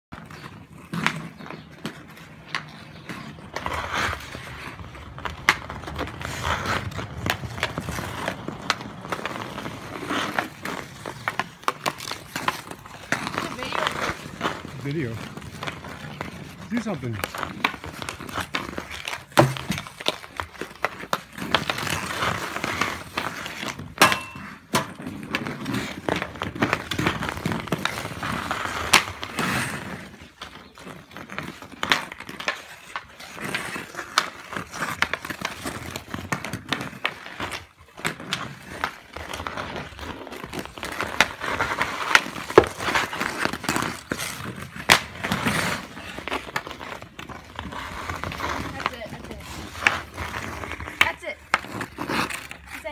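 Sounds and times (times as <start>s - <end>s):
skate blades scraping ice: 0.1s - 52.9s
hockey stick clacking puck: 0.2s - 52.9s.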